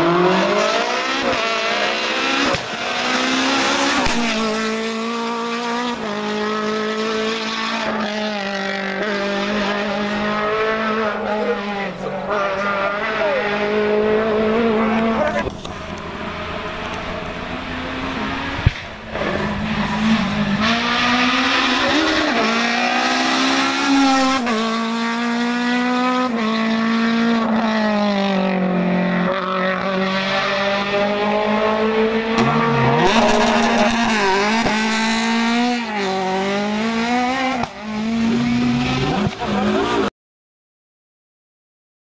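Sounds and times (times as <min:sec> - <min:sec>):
rally car engine revving: 0:00.0 - 0:40.1.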